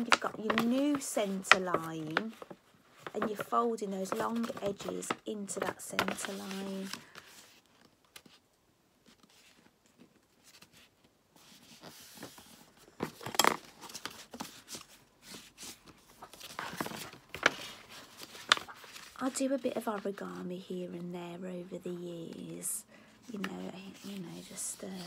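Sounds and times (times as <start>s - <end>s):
paper folding and crinkling: 0.0s - 20.2s, 23.2s - 25.0s.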